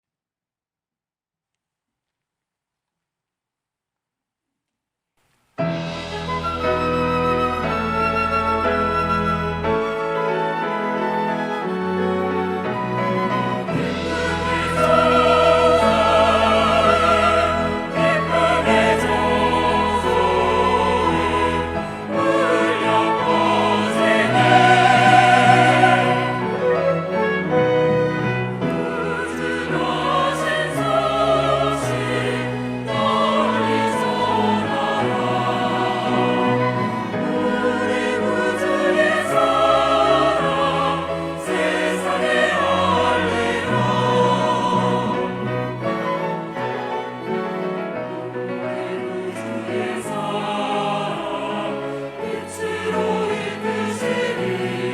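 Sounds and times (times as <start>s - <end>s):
church choir singing: 6.0s - 54.9s.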